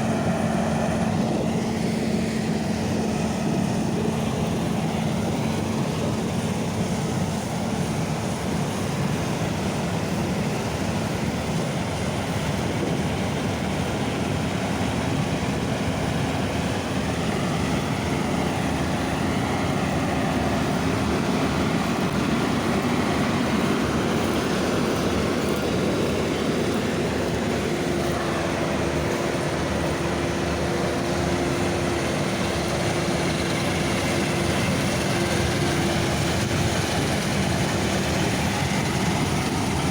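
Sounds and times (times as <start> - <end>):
farm machinery diesel engine: 0.0 - 39.9.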